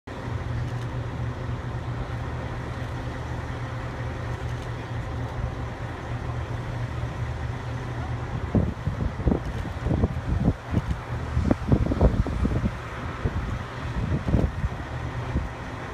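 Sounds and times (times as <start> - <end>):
engines idling: 0.1 - 15.9.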